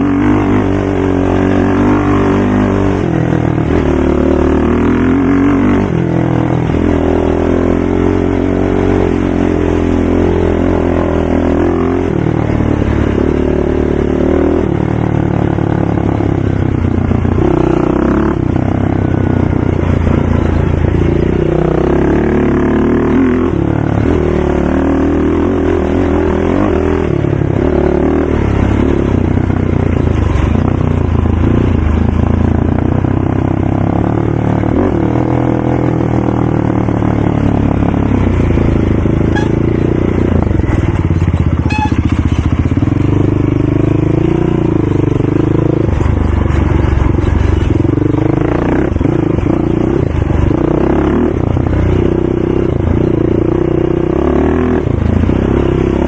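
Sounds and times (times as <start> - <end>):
atv engine running hard: 0.0 - 56.0.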